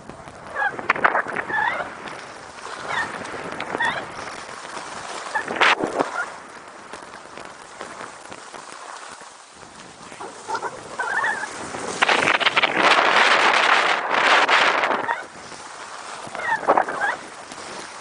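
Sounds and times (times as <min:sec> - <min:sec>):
skis scraping over snow: 0:00.0 - 0:18.0
wind on microphone: 0:00.0 - 0:18.0.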